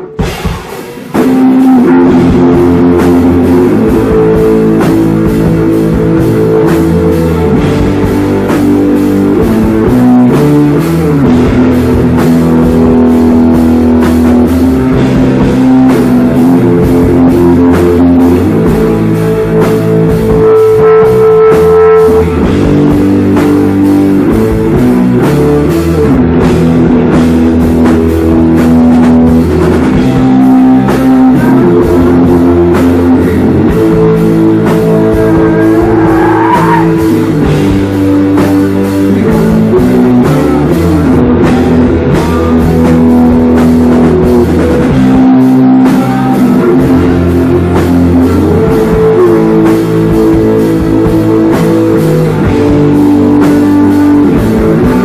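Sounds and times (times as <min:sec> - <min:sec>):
drum kit: 0:00.0 - 0:55.0
electric guitar chords: 0:00.0 - 0:55.0
rising guitar glide: 0:00.0 - 0:55.0.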